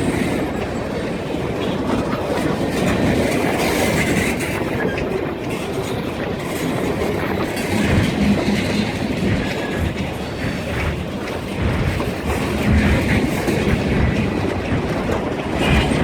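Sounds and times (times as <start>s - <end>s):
train wheels clattering over rails: 0.0s - 16.0s.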